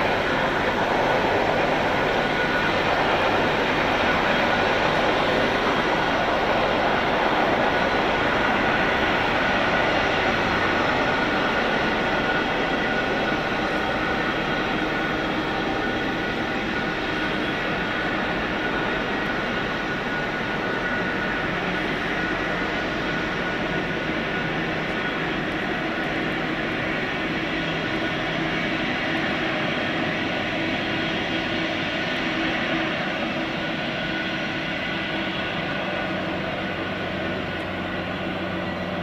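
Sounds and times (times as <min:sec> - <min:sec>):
diesel locomotive engines droning: 0:00.0 - 0:39.0.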